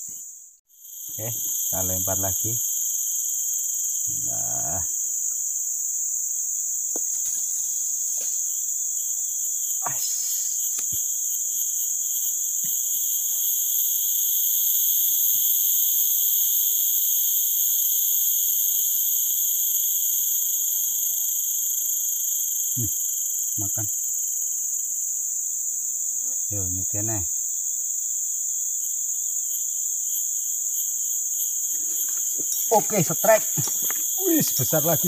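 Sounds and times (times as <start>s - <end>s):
shrill insect buzzing: 0.0s - 35.0s.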